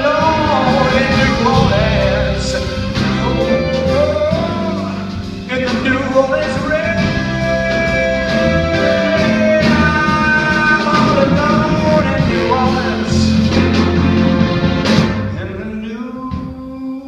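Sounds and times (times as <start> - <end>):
lead line of long held notes: 0.0 - 14.9
blues band playing: 0.0 - 16.6.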